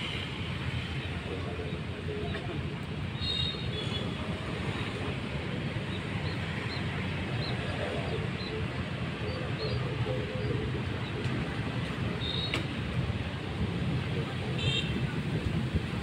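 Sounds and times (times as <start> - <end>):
harbour ambience rumble: 0.0 - 16.0.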